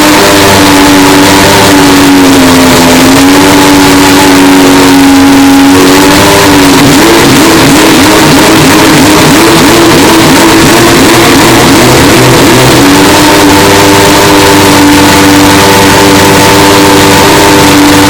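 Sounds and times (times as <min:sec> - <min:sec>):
loud distorted race car engine: 0:00.0 - 0:18.0.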